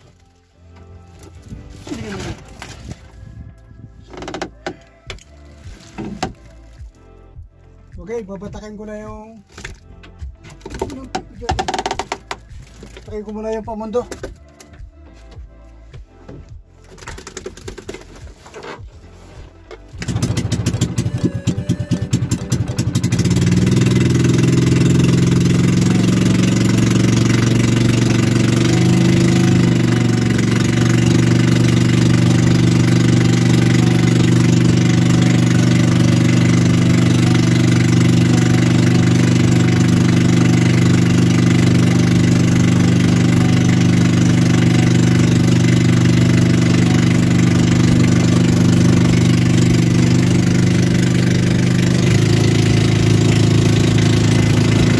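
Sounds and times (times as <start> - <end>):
boat engine starting and running: 0.0 - 7.0, 9.5 - 14.4, 16.4 - 18.9, 19.6 - 54.9.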